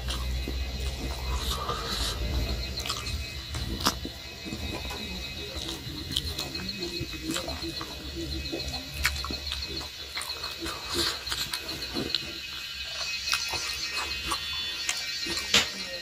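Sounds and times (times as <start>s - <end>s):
chewing and mouth smacks: 0.0s - 16.0s.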